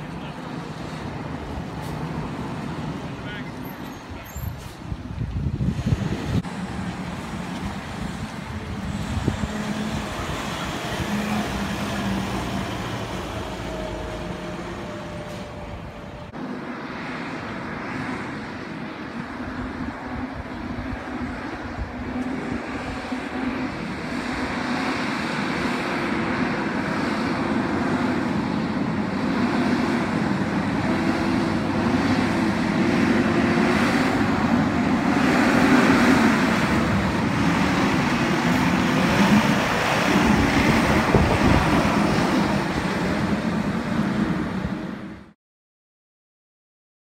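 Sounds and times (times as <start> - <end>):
garbage truck diesel engine passing: 4.8 - 45.4.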